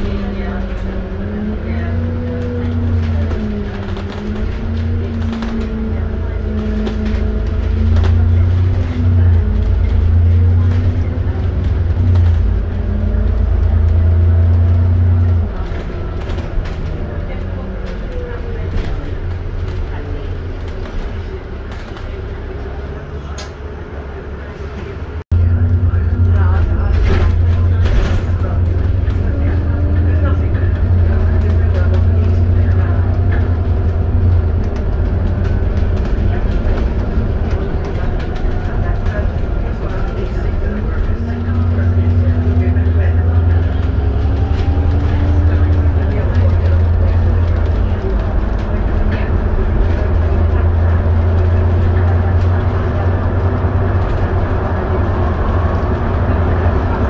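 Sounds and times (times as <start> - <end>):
bodywork ticks and rattles: 0.0 - 22.4, 26.1 - 57.0
bus engine drone: 0.0 - 57.0.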